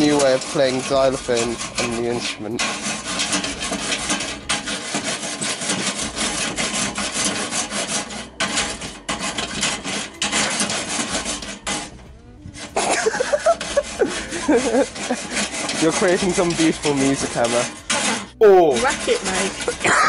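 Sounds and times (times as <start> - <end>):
wire brush scrubbing metal grill: 0.0 - 20.0.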